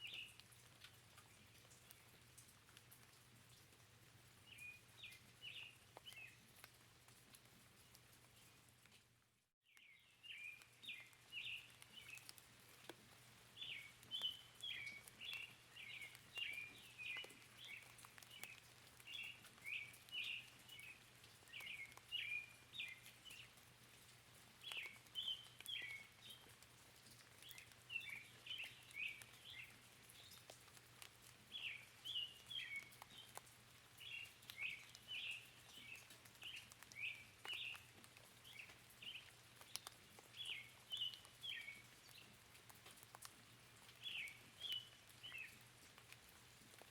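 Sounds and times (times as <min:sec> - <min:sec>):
small birds chirping: 0:00.0 - 0:02.5, 0:04.4 - 0:08.6, 0:09.6 - 0:46.9
light rain patter: 0:00.0 - 0:46.9.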